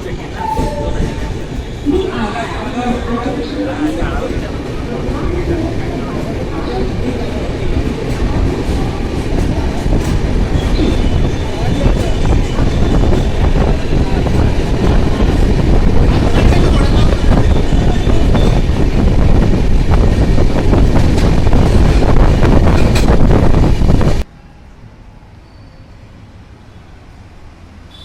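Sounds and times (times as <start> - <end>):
train wheels rumbling on rails: 0.0 - 24.3.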